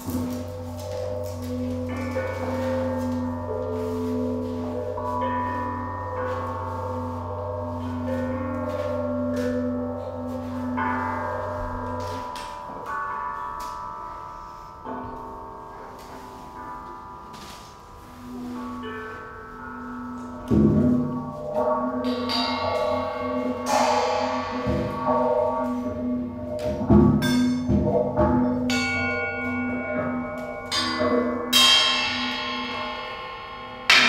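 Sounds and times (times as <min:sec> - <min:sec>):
cymbals and metal struck ringing: 0:00.0 - 0:34.0
steady low tone: 0:00.0 - 0:34.0.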